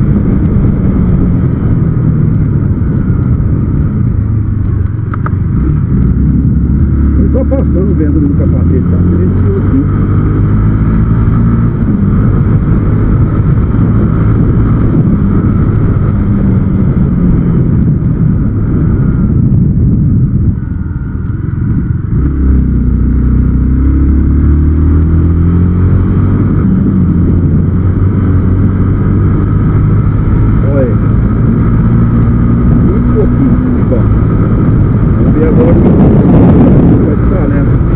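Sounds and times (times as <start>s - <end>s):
motorcycle engine running: 0.0s - 37.9s
road noise: 0.0s - 37.9s
wind noise: 0.0s - 37.9s.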